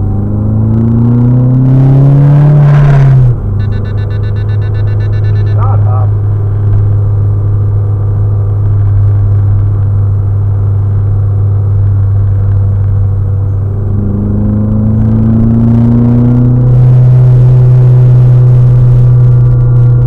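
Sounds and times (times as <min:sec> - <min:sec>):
in-cabin car engine drone: 0:00.0 - 0:20.0.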